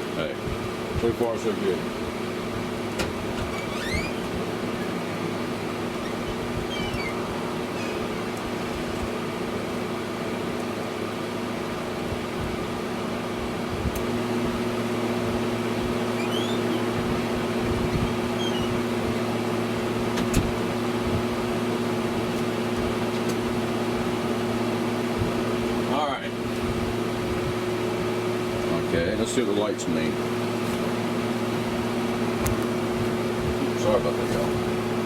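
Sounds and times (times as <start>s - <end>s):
air conditioner humming: 0.0s - 35.0s.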